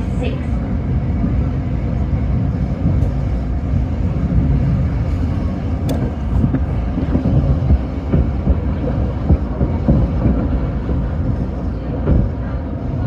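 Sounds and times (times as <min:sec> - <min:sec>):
train wheels and motors rumbling: 0:00.0 - 0:13.0.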